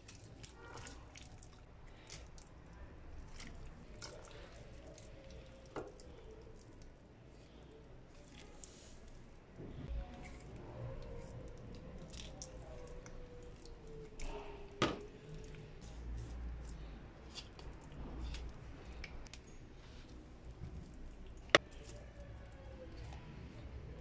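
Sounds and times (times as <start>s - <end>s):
wet squishing of meat: 0.0s - 24.0s.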